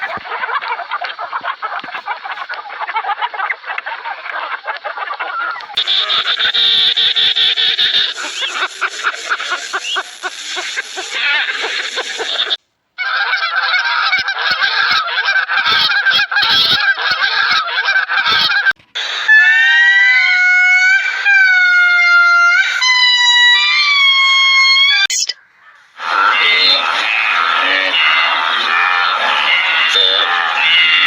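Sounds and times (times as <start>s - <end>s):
geese honking: 0.0s - 31.0s
long drawn-out pitched calls: 0.0s - 31.0s.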